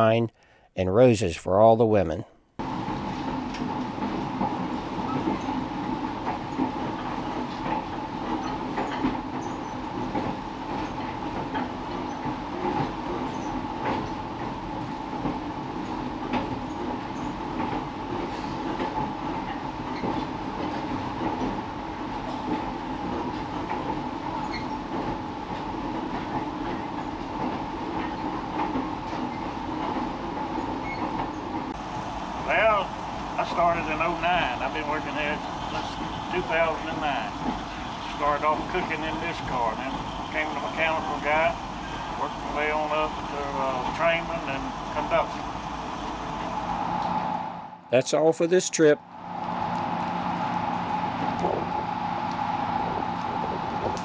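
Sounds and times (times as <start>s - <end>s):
train wheels rumbling on track: 2.6s - 54.0s.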